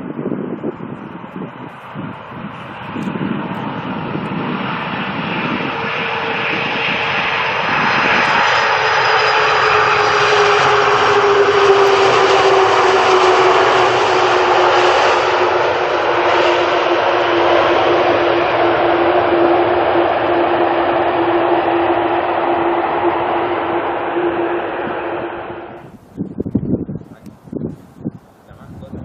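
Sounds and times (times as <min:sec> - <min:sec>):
jet airliner engine noise: 0:00.0 - 0:29.0.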